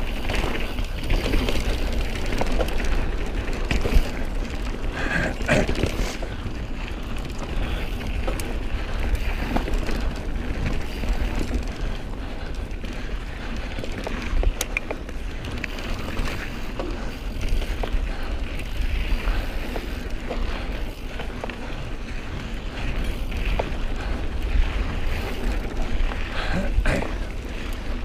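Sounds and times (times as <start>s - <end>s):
bike chain and frame rattles: 0.0s - 28.0s
tyres rushing on dirt: 0.0s - 28.0s.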